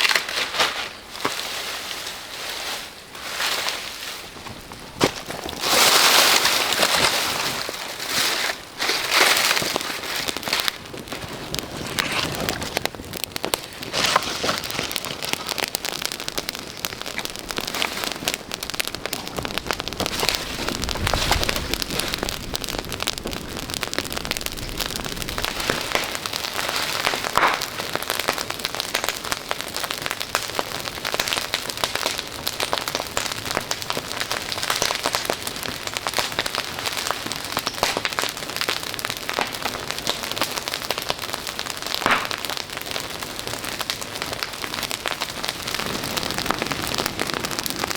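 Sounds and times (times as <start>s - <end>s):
rain falling: 3.7s - 47.9s.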